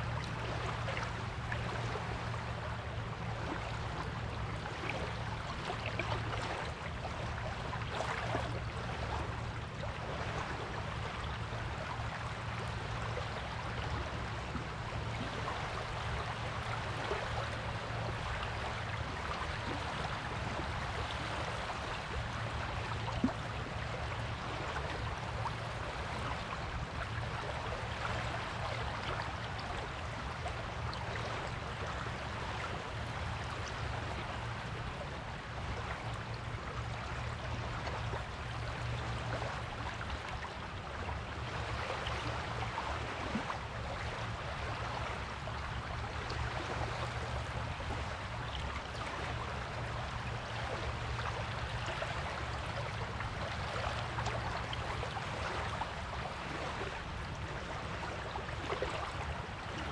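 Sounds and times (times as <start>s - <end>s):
sea waves on a beach: 0.0s - 59.9s.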